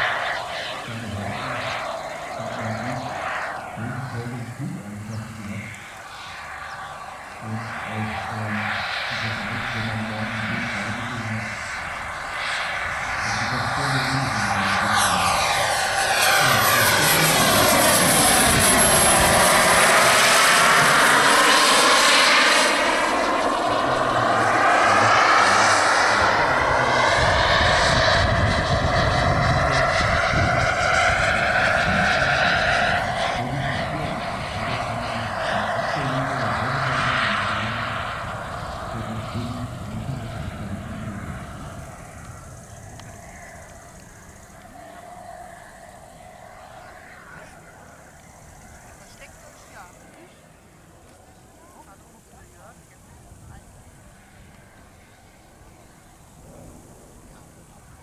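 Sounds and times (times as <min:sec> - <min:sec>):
high turbine whine: 0:00.0 - 0:58.0
jet rush of model plane: 0:00.0 - 0:58.0.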